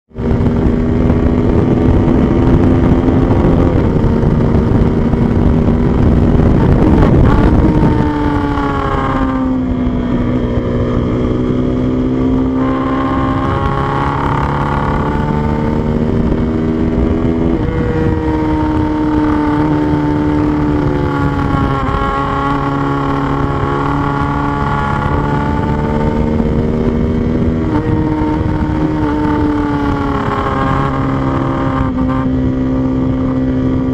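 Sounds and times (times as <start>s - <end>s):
heavy wind rush: 0.1s - 33.9s
motorcycle engine shifting gears: 0.1s - 33.9s.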